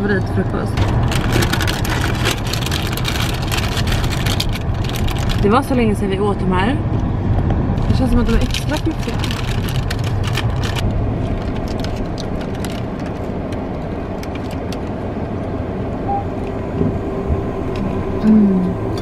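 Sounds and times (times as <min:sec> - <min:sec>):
car cabin rumble: 0:00.0 - 0:19.0.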